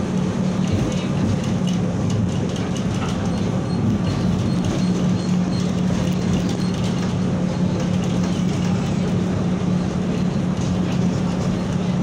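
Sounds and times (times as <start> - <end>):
tram rolling on track: 0.0 - 12.0.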